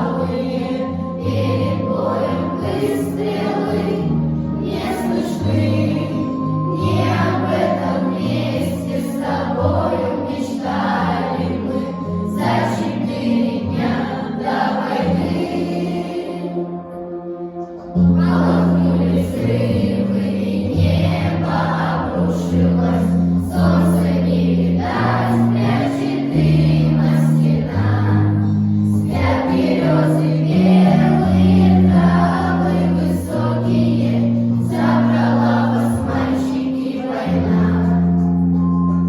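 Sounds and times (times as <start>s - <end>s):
children's choir singing: 0.0s - 39.0s.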